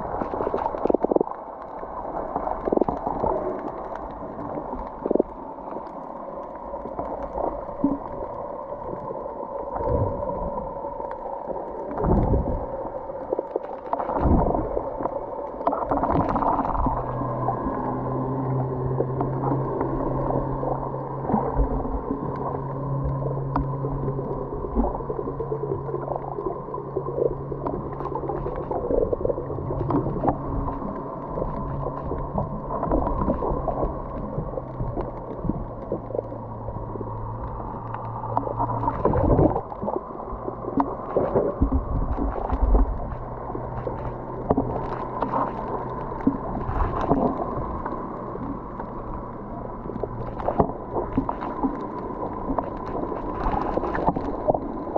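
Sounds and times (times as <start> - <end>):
watery rushing: 0.0 - 54.9.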